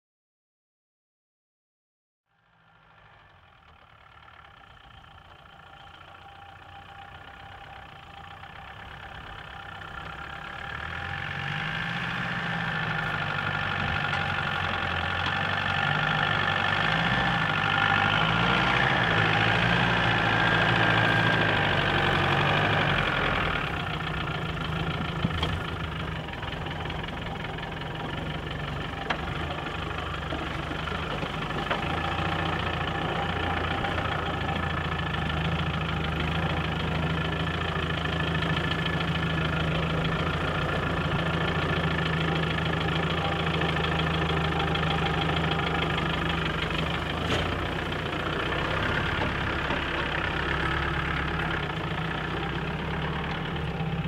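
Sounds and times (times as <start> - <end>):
engine running at low revs: 2.3 - 54.0.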